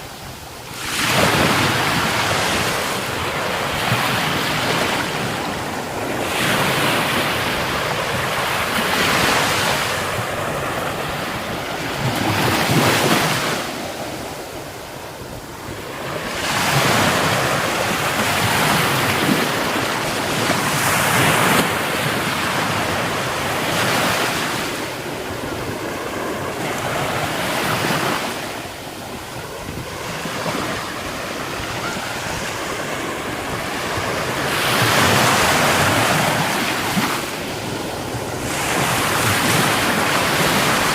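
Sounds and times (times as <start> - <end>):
wind on microphone: 0.0 - 40.9
sea surf breaking: 0.7 - 40.9.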